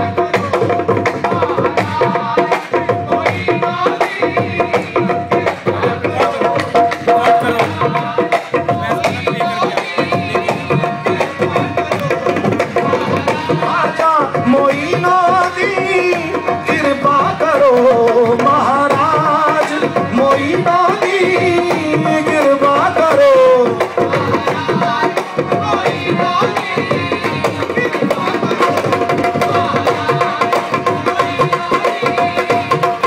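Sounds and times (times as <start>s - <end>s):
fast hand drum rhythm: 0.0s - 33.0s
harmonium: 0.0s - 33.0s
lead voice singing: 0.0s - 33.0s.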